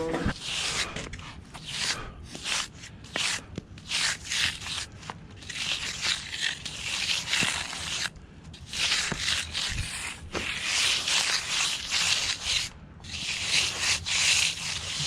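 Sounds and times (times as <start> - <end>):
tool scraping wet concrete: 0.0 - 15.0.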